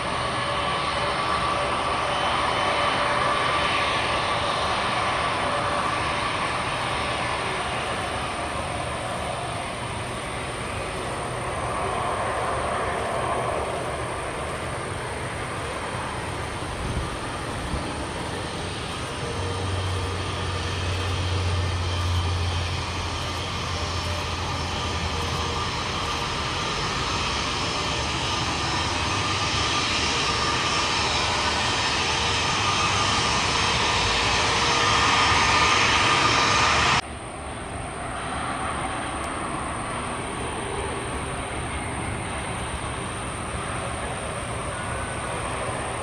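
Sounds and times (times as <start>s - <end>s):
jet on approach: 0.0s - 46.0s
turboprop engines droning: 0.0s - 46.0s.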